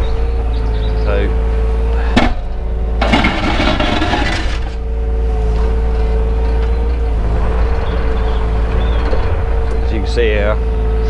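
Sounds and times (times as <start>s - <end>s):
excavator engine hum: 0.0s - 11.0s.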